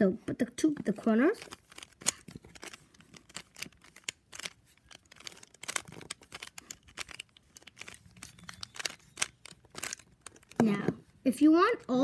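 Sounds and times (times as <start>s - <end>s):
puzzle cube clicking: 0.8s - 11.0s.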